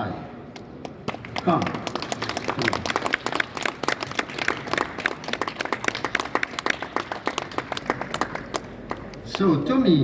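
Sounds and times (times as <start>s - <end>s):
audience applauding: 1.1s - 9.4s.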